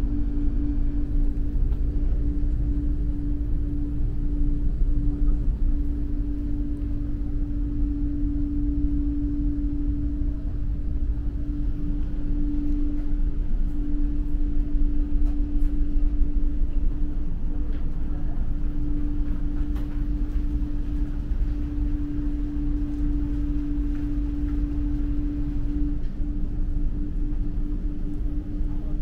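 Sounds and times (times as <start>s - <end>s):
constant machinery hum: 0.0s - 29.0s
ship engines rumbling: 0.0s - 29.0s.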